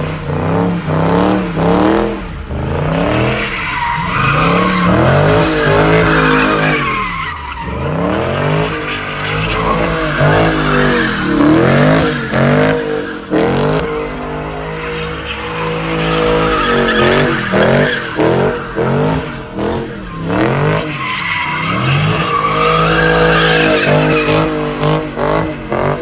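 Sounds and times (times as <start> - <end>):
car engine revving: 0.0 - 26.0
tyres squealing: 3.4 - 25.0.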